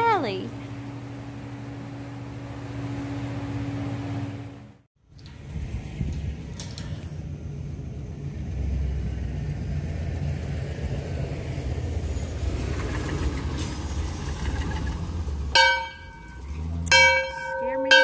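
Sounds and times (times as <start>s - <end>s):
low engine-like rumble: 0.0s - 18.0s.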